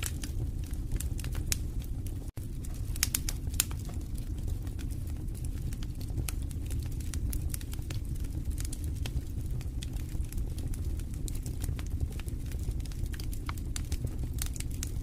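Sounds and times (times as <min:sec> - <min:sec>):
fire popping and snapping: 0:00.0 - 0:15.0
low rumble of flames: 0:00.0 - 0:15.0.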